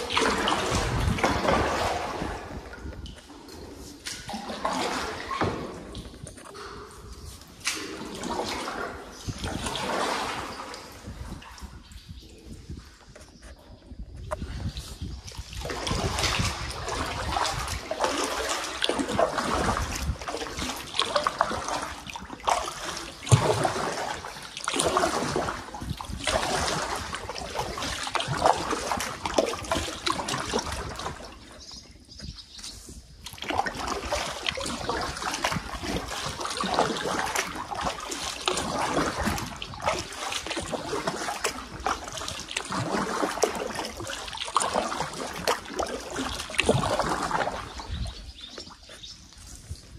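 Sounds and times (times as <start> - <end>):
short water splashes: 0.0 - 13.1, 14.0 - 49.9
water trickling and splashing: 0.0 - 49.9.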